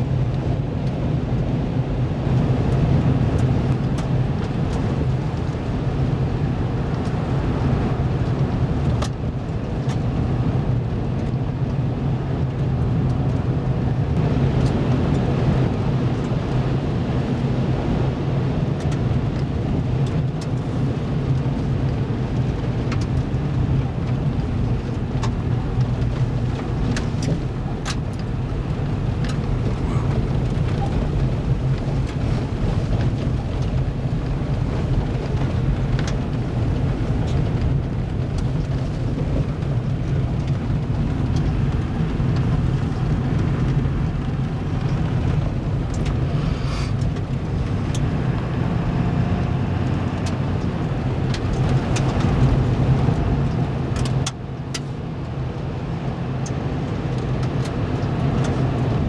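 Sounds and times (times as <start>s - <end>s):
vehicle rumbling on gravel: 0.0s - 59.0s.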